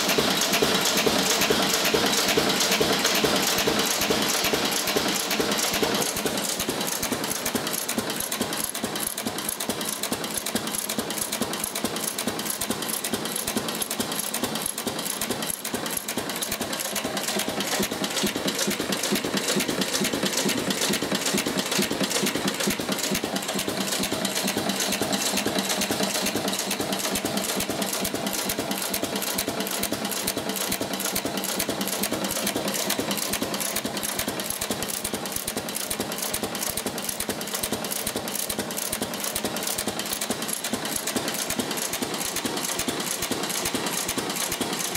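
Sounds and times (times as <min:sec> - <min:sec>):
stationary engine clattering: 0:00.0 - 0:44.9.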